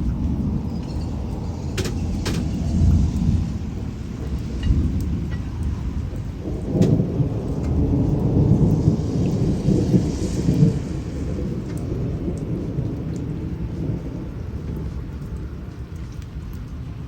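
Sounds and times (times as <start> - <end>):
low rumble of thunder: 0.0 - 17.0
rain falling: 0.0 - 17.0
sharp drips: 0.0 - 17.0.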